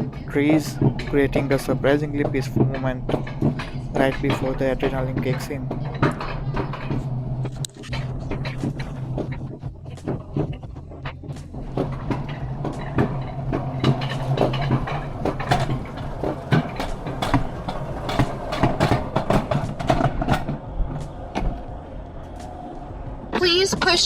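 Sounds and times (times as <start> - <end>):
coaster cart rattling on metal track: 0.0 - 24.0
low hum: 0.0 - 24.0.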